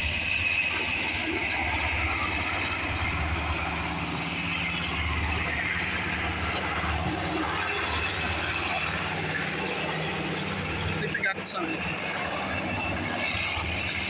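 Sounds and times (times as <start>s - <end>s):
helicopter rotor and engine rumble: 0.0s - 14.0s.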